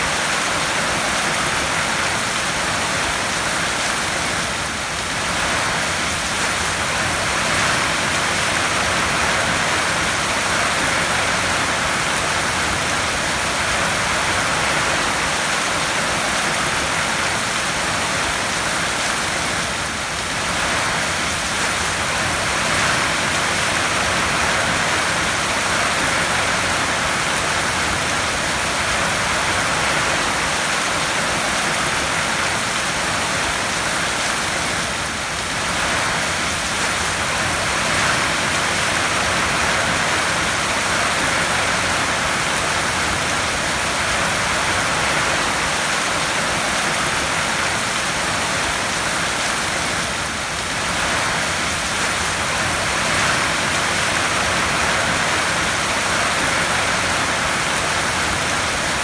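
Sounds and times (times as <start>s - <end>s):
heavy rain on a tin roof: 0.0s - 59.0s.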